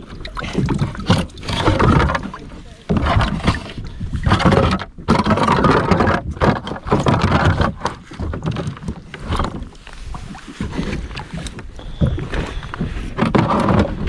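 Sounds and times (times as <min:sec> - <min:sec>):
water sloshing against kayak: 0:00.0 - 0:14.0.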